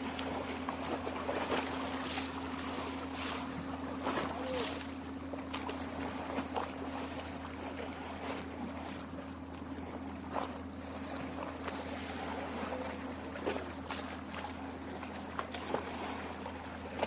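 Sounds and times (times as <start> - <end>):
steady low hum: 0.0 - 17.0
waves lapping against shore: 0.0 - 17.0.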